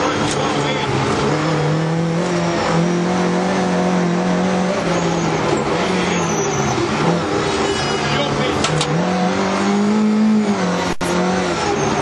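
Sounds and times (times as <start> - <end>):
rally car engine running hard: 0.0 - 12.0
road and tyre noise: 0.0 - 12.0.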